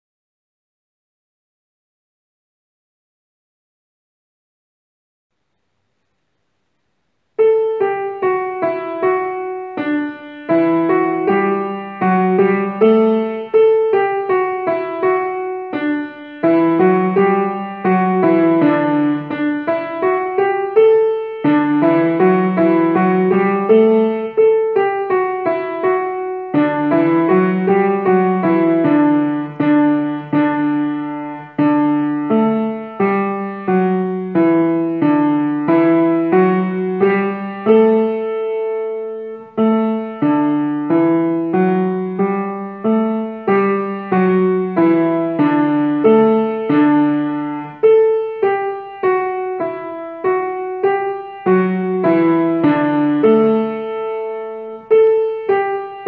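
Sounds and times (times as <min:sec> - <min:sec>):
grand piano solo: 0:07.4 - 0:56.0.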